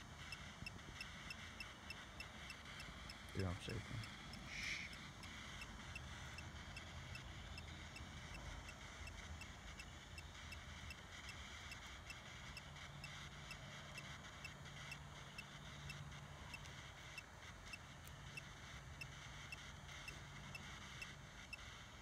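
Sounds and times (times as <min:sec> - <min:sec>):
faint electronic ticking: 0:00.0 - 0:22.0.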